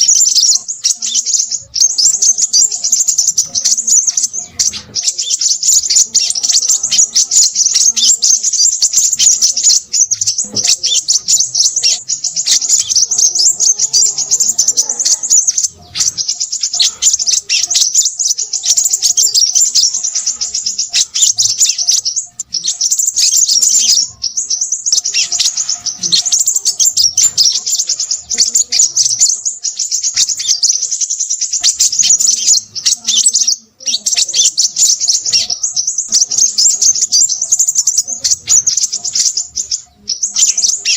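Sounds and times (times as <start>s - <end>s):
bird twittering chirps: 0.0s - 40.9s.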